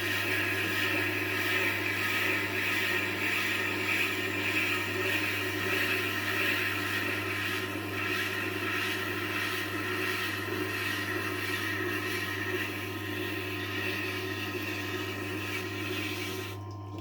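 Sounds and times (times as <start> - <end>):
sharpening machine humming: 0.0 - 17.0
knife grinding on wheel: 2.0 - 16.6.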